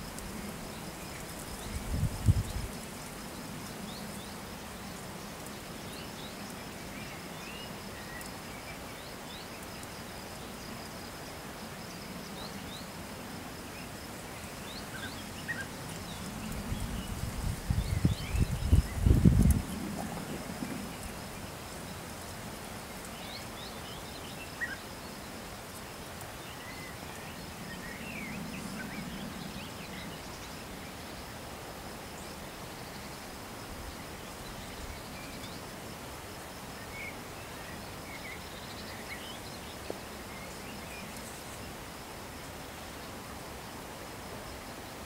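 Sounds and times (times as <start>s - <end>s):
high insect trill: 0.0s - 45.0s.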